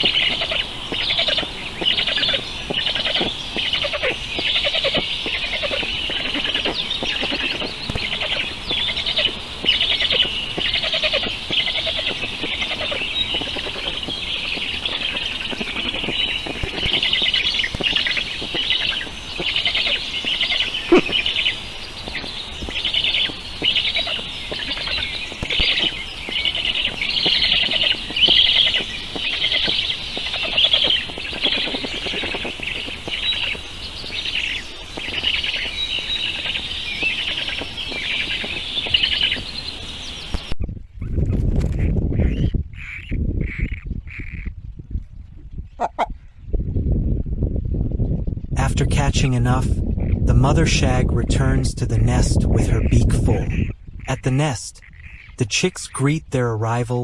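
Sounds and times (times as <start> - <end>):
birds chirping: 0.0 - 44.2, 48.2 - 57.0.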